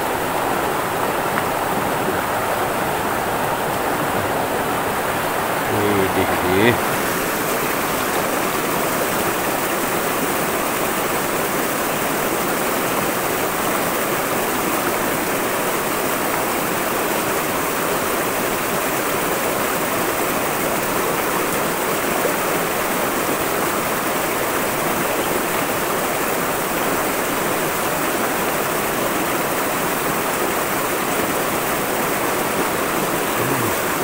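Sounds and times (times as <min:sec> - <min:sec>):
river rushing over stones: 0:00.0 - 0:34.0.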